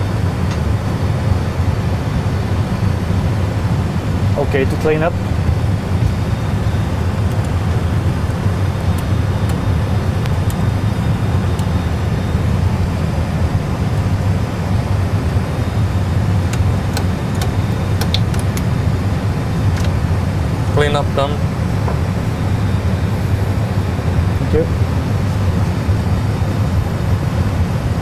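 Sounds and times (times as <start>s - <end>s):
jet engines idling: 0.0s - 28.0s.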